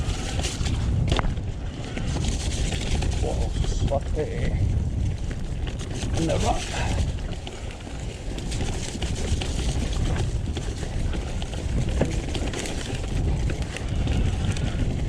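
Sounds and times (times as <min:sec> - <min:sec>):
bike knocks and rattles: 0:00.0 - 0:15.0
tyres and wind rumble: 0:00.0 - 0:15.0.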